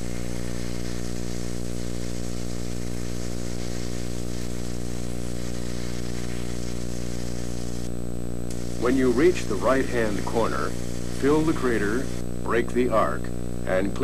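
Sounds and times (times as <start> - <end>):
electrical hum: 0.0 - 14.0
welding arc sizzling: 0.0 - 14.0.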